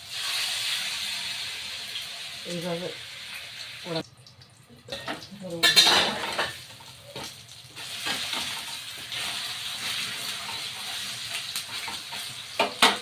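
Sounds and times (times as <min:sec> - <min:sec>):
fritters sizzling in hot oil: 0:00.0 - 0:13.0.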